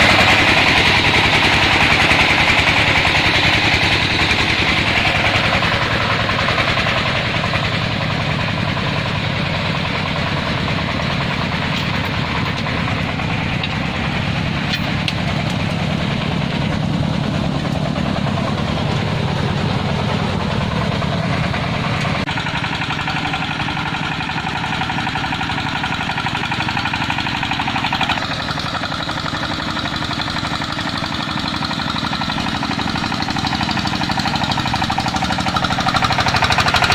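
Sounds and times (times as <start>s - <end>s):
diesel engine knocking chug: 0.0s - 36.9s.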